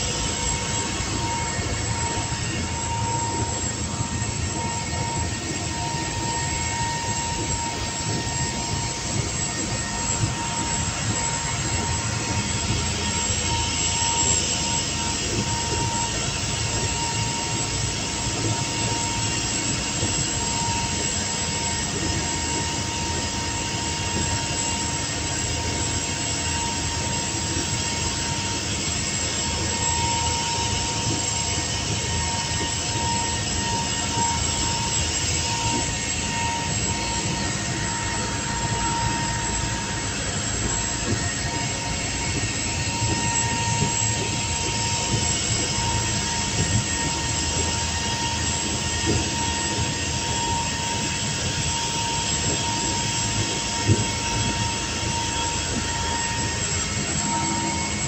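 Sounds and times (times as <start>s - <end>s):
steady high whine: 0.0s - 58.0s.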